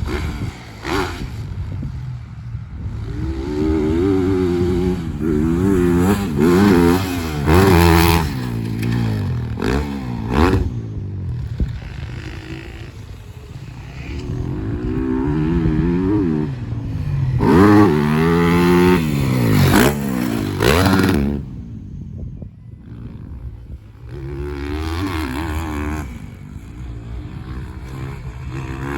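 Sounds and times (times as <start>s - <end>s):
motocross bike engine revving: 0.0s - 21.8s, 22.8s - 28.9s.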